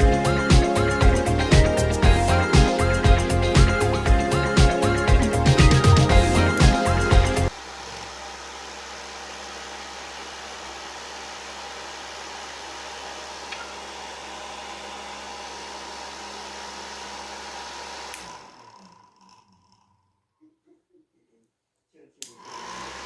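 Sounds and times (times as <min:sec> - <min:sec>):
electric fan running: 0:00.0 - 0:19.3, 0:22.3 - 0:23.0.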